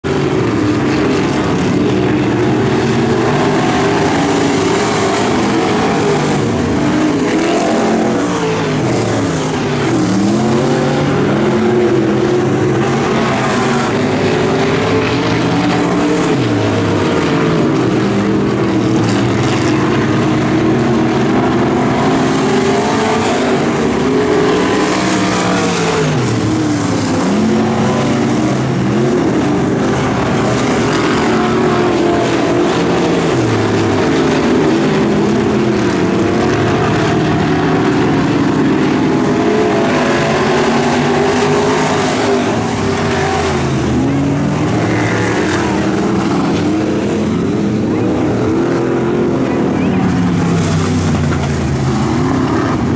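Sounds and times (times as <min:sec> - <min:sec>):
race car engines revving: 0:00.0 - 0:52.9.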